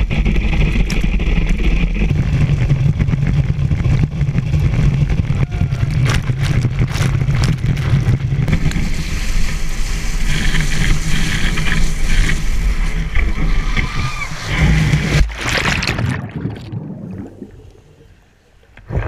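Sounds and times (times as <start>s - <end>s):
boat engine drone: 0.0s - 15.3s
water spray and wind rush: 0.0s - 18.2s.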